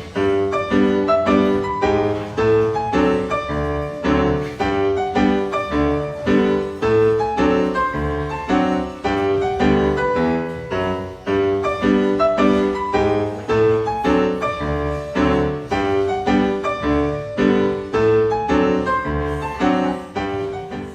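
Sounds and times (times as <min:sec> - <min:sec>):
piano dance music: 0:00.0 - 0:20.9.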